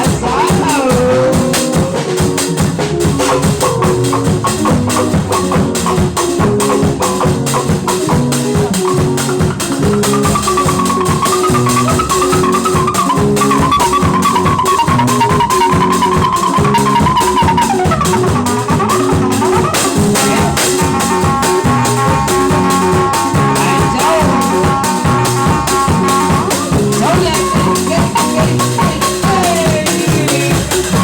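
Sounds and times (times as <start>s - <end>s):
drum kit beat: 0.0s - 31.0s
higher melody line: 0.0s - 31.0s
low repeating riff: 0.0s - 31.0s.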